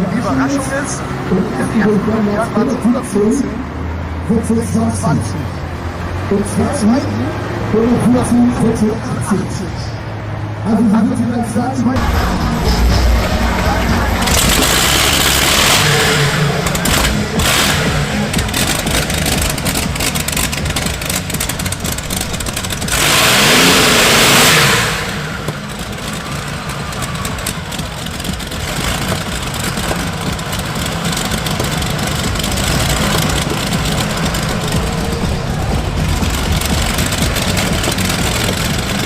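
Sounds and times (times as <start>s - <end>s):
tractor engines revving: 0.0s - 39.0s.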